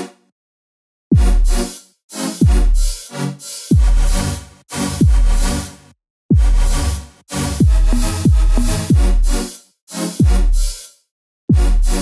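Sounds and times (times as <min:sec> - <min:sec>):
electronic dance music: 0:01.2 - 0:10.9, 0:11.5 - 0:12.0.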